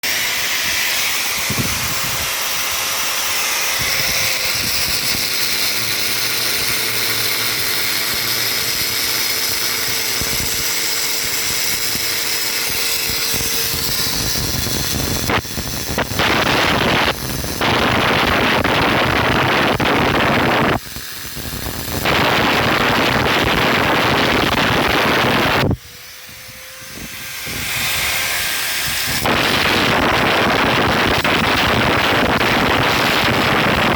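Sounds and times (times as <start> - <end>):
hissing grinding noise: 0.0 - 33.9
power tool running: 0.0 - 33.9.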